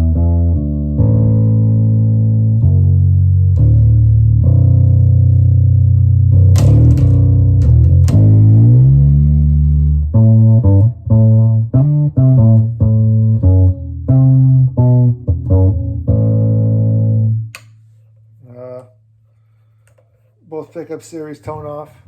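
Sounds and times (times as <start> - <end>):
electric bass notes sliding and plucked: 0.0 - 19.6.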